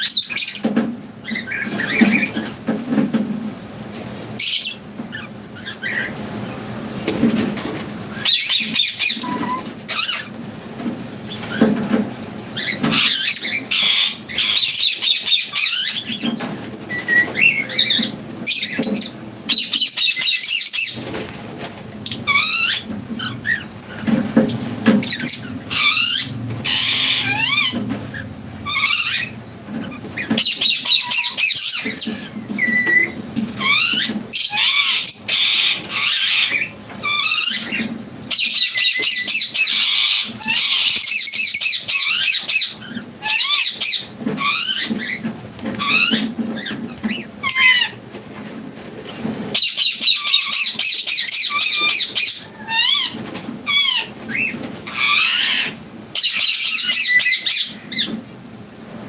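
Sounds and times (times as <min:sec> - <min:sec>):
small birds chirping: 0:00.0 - 0:03.0, 0:04.3 - 0:10.4, 0:11.1 - 0:48.0, 0:49.5 - 0:58.2.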